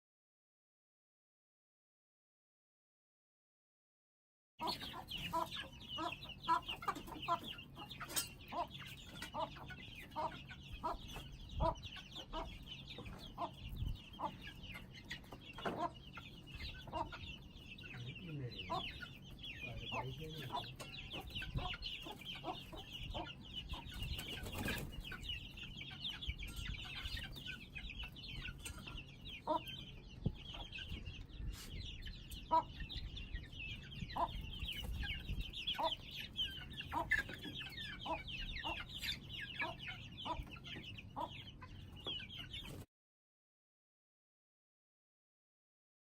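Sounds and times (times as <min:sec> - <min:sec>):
chicks peeping and chirping: 0:04.6 - 0:42.9.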